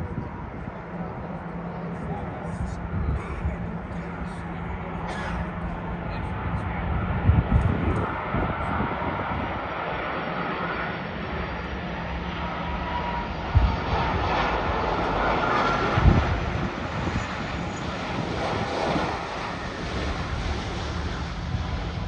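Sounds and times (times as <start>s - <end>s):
jet airliner passing low: 0.0s - 22.0s.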